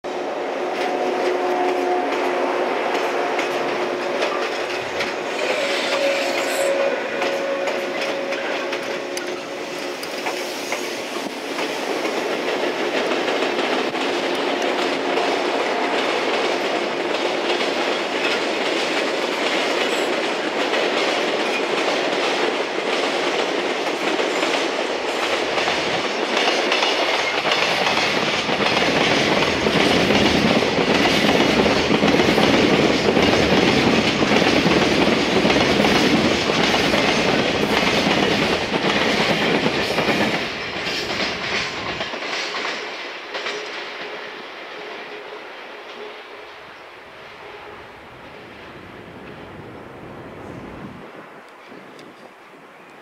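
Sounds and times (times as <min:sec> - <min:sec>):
freight train passing: 0:00.0 - 0:53.0
train wheel-on-rail noise: 0:00.0 - 0:53.0.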